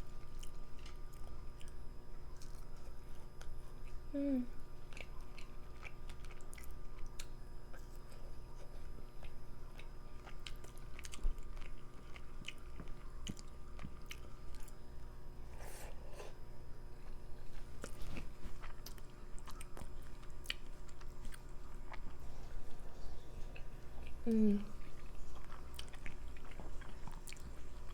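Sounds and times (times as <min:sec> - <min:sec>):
person chewing food: 0:00.0 - 0:04.1, 0:04.7 - 0:27.9.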